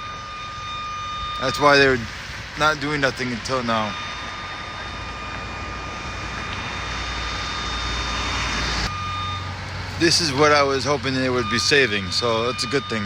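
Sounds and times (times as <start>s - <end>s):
engine rumble: 0.0s - 13.0s
thin steady whine: 0.0s - 13.0s.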